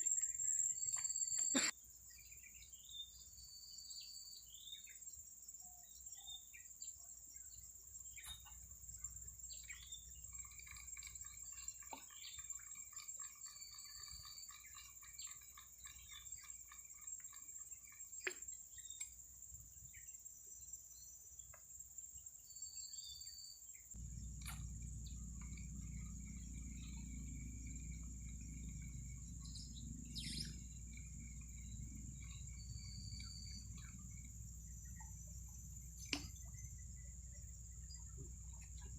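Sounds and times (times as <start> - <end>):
bird chirps and trills: 0.0 - 21.2, 22.4 - 38.9
insect drone: 0.0 - 38.9.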